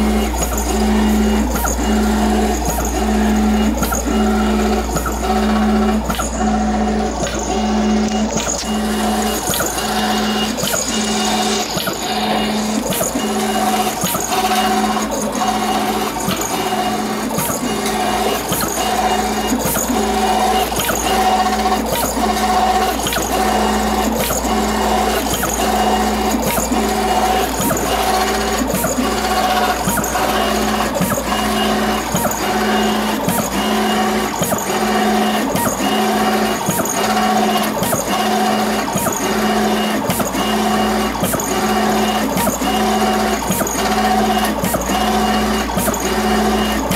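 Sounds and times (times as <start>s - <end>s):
printer carriage motor whining: 0.0s - 46.9s.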